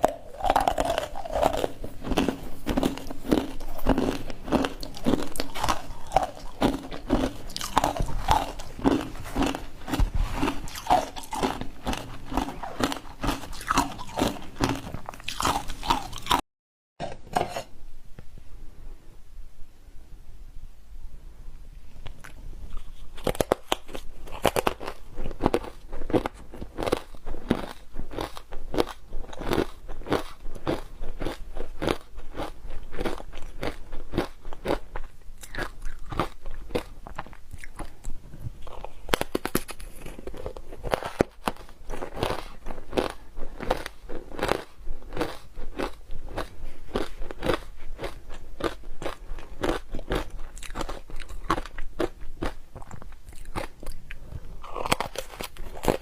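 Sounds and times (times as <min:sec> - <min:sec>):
ice crunching being chewed: 0:00.0 - 0:16.4, 0:22.0 - 0:56.0.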